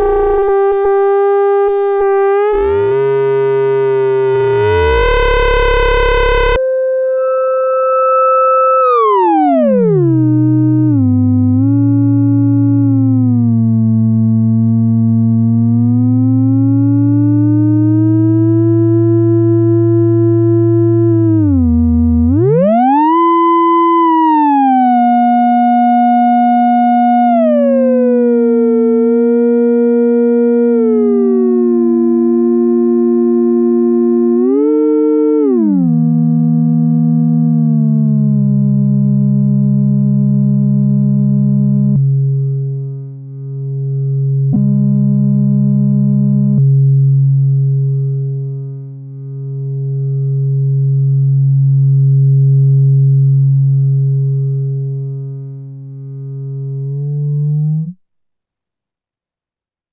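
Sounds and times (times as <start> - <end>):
synthesizer tone with filter sweep: 0.0 - 55.4.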